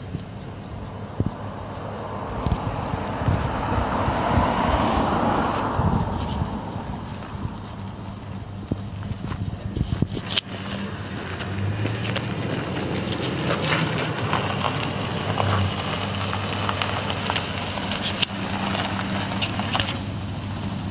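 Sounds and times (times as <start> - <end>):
truck engine idling: 0.0 - 20.9.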